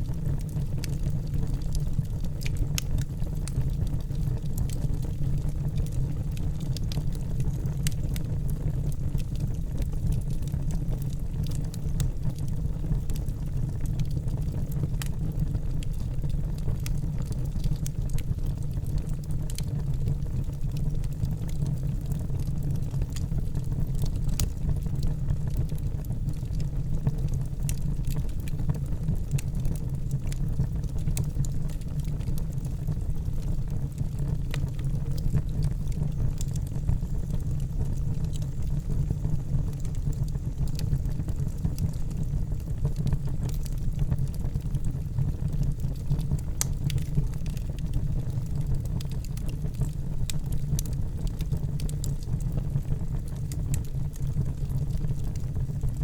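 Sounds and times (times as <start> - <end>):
fire crackling and popping: 0.0 - 56.0
low roar of flames: 0.0 - 56.0.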